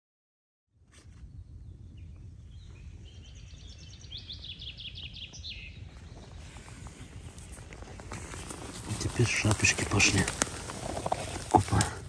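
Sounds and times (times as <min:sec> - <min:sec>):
songbird singing: 0:01.0 - 0:12.0.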